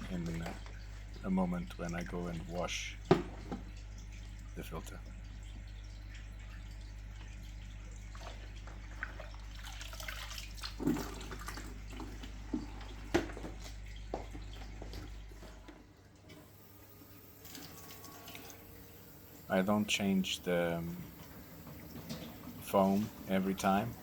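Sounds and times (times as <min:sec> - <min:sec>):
low steady hum: 0:00.0 - 0:24.0
water running and splashing in sink: 0:00.0 - 0:24.0.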